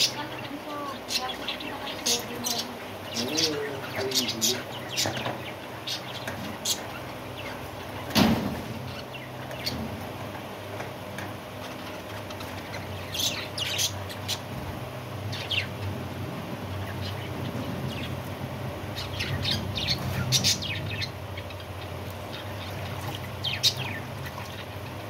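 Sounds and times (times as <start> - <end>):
budgerigars chirping: 0.0 - 10.2, 11.5 - 16.1, 16.7 - 25.0.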